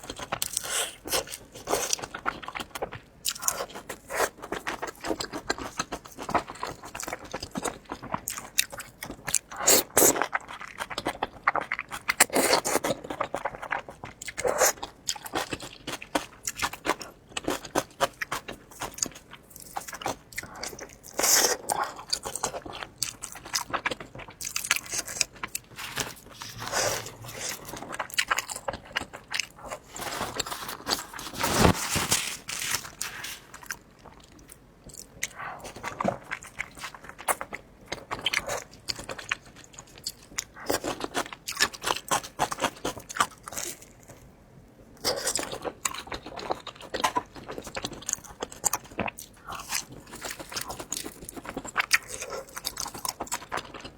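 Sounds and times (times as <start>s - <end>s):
person chewing crunchy food: 0.0s - 44.4s, 45.0s - 53.9s.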